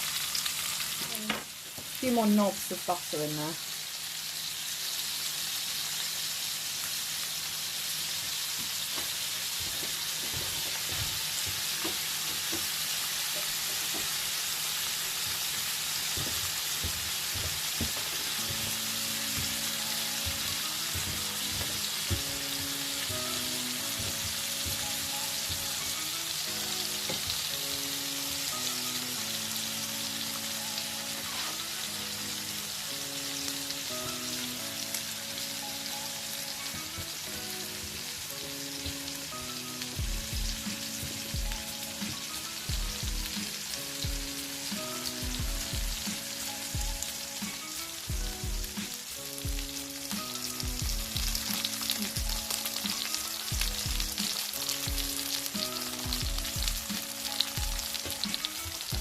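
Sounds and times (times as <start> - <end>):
fish sizzling in a pan: 0.0 - 59.0
soft background music: 0.1 - 3.6, 9.5 - 59.0.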